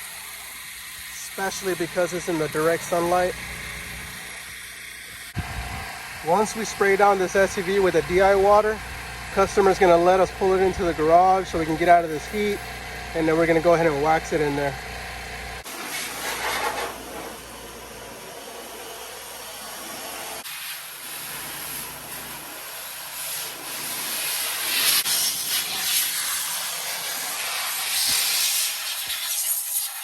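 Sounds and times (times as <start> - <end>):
hose spraying water: 0.0 - 30.0.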